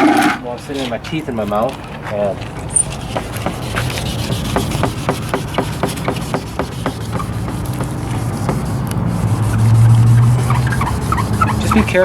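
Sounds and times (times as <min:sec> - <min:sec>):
sandpaper rubbing on plastic: 0:00.0 - 0:12.0.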